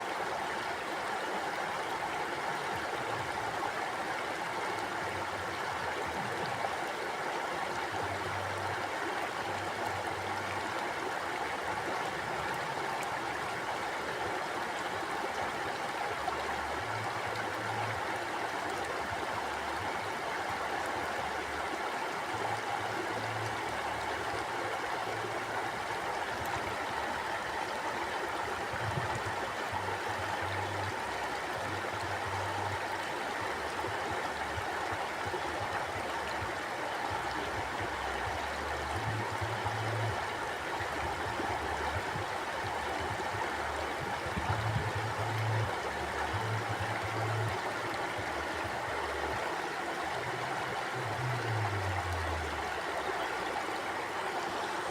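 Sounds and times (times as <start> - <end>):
stream flowing over rocks: 0.0 - 54.9.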